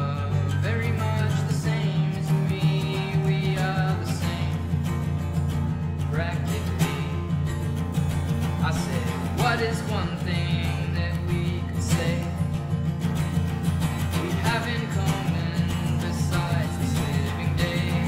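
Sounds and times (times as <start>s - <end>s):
man singing: 0.0s - 5.2s, 6.0s - 7.8s, 8.4s - 12.9s, 13.8s - 18.0s
acoustic guitar strumming: 0.0s - 18.0s.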